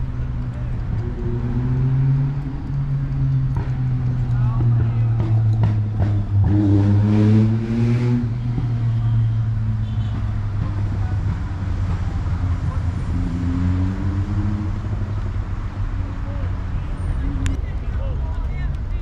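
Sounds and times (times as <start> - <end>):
vehicle engine running: 0.0 - 7.6, 8.2 - 19.0.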